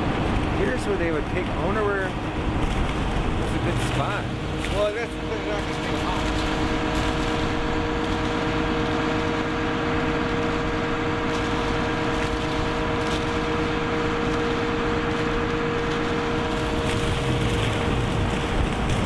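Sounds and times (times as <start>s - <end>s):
boat engine running: 0.0s - 19.0s
constant whine: 0.0s - 19.0s.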